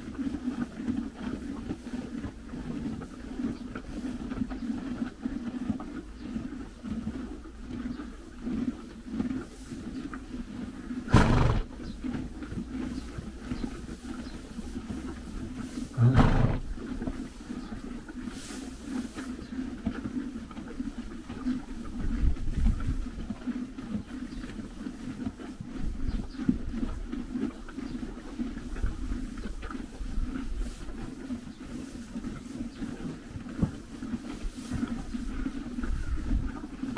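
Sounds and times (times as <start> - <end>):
horses crunching hay: 0.0 - 36.9.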